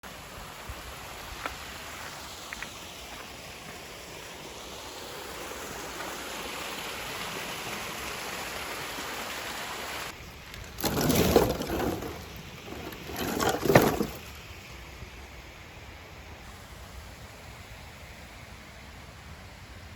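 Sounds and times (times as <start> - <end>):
river flowing: 0.0 - 19.9.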